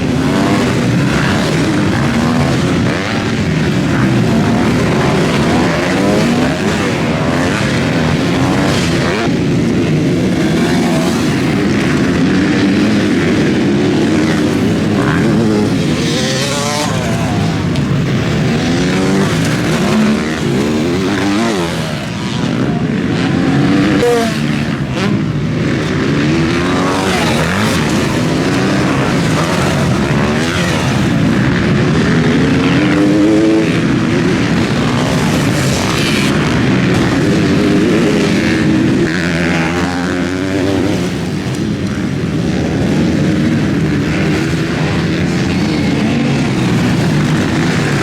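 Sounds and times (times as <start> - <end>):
motocross bikes revving: 0.0 - 48.0.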